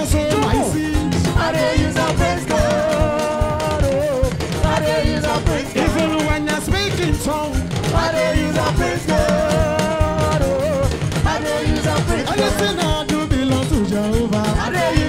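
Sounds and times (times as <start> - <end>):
busy drum beat: 0.0 - 15.0
praise music singing: 0.0 - 15.0.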